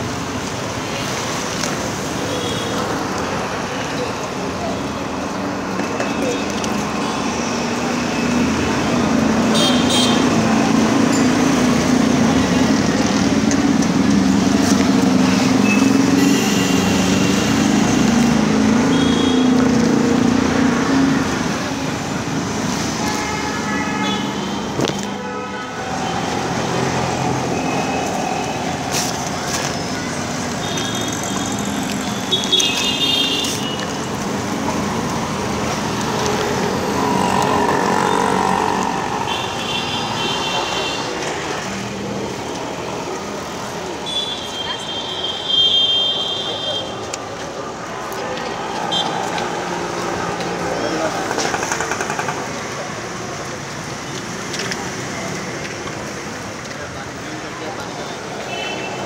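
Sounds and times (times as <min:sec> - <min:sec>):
passing traffic: 0:00.0 - 0:59.0.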